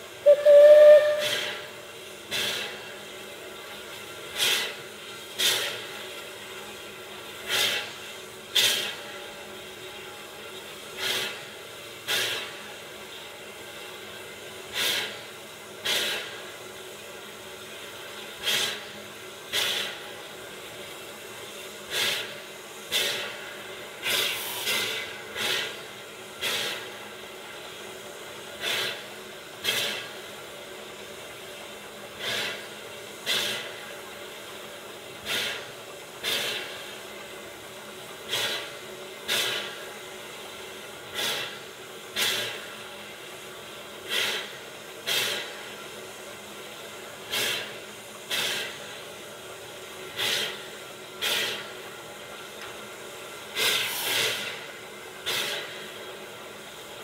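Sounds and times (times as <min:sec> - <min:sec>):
steady hiss of escaping steam: 0:00.0 - 0:57.0
steam exhaust chuffs: 0:00.0 - 0:57.0.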